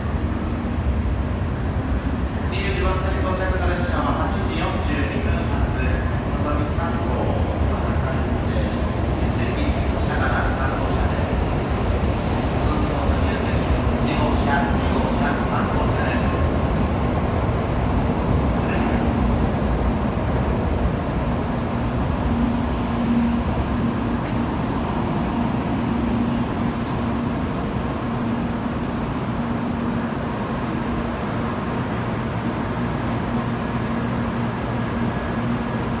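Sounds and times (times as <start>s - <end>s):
train rumbling into station: 0.0s - 36.0s.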